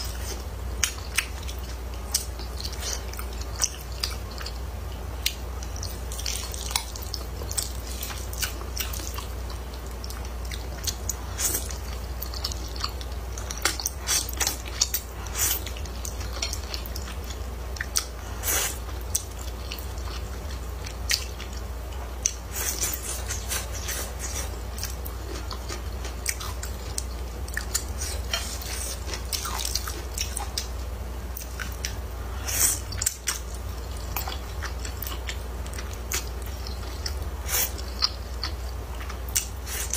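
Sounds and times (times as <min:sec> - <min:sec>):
steady low hum: 0:00.0 - 0:39.9
wet chewing and mouth clicks: 0:00.1 - 0:30.8, 0:31.4 - 0:39.9.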